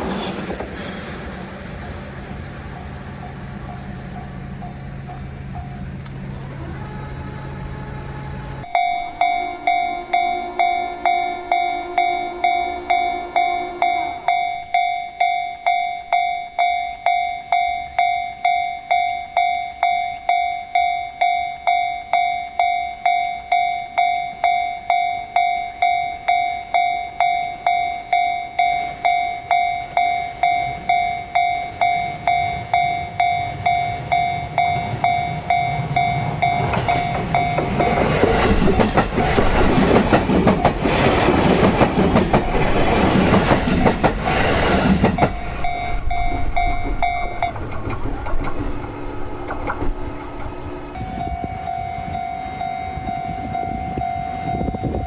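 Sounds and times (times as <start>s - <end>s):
low train rumble: 0.0s - 55.0s
railroad crossing bell: 1.8s - 47.7s, 48.9s - 55.0s.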